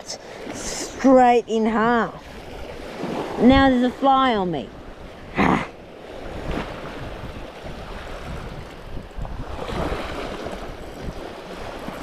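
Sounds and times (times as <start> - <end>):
sea waves washing on shore: 0.0 - 12.0
wind rumbling on microphone: 1.0 - 12.0.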